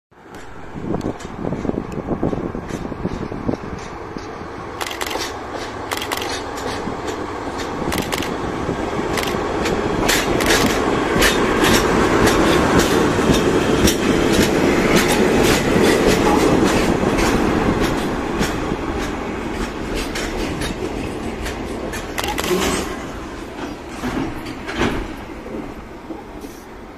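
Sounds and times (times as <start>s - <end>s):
train wheels rumbling on rails: 0.1s - 26.9s
wheels clacking over rail joints: 0.2s - 26.4s.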